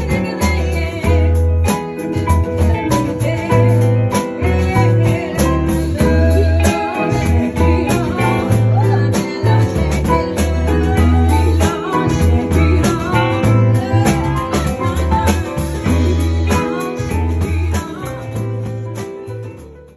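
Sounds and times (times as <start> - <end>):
live band playing: 0.0 - 19.9.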